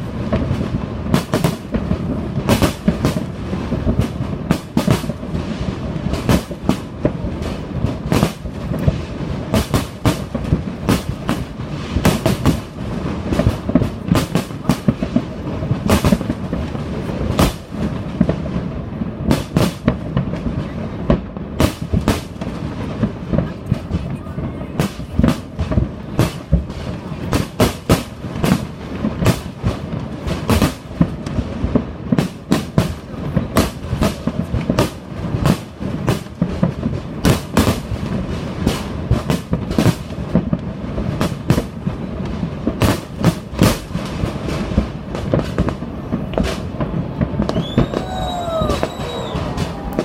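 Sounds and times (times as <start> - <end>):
fireworks bangs: 0.0 - 50.0.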